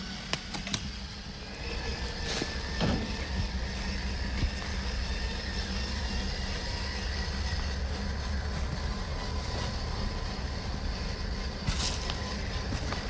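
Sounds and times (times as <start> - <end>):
small electric motor whining drone: 0.0 - 13.0.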